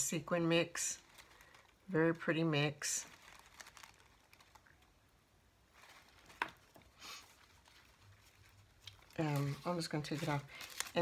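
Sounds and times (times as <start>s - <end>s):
soft rustle: 0.7s - 11.0s.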